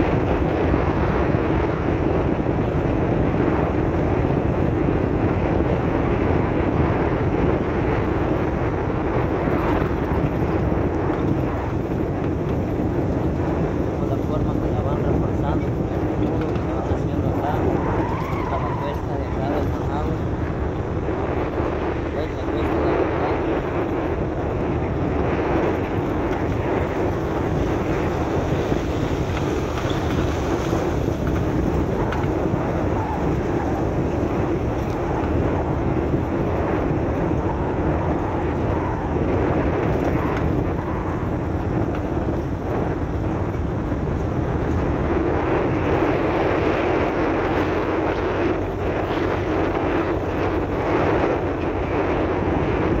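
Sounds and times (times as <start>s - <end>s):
tyres on dirt road: 0.0s - 53.0s
vehicle engine: 0.0s - 53.0s.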